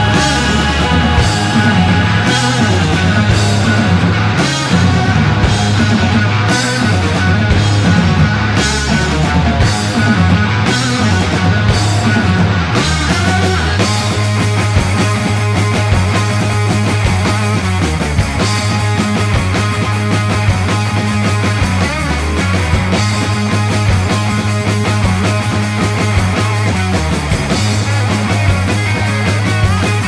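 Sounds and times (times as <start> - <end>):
rock music: 0.0 - 30.0.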